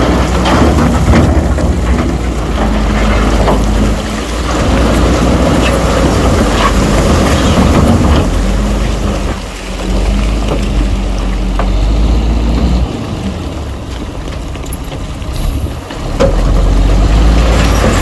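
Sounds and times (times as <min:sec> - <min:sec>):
heavy diesel machinery rumble: 0:00.0 - 0:18.0
rough crunching clattering: 0:00.0 - 0:18.0.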